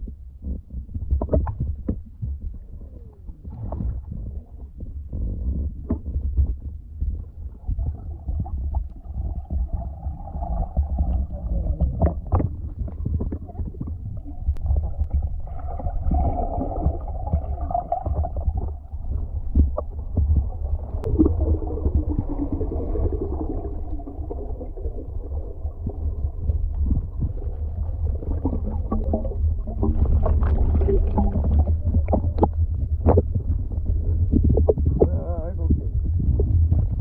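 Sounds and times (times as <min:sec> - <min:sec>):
underwater rumble of moving water: 0:00.0 - 0:37.0.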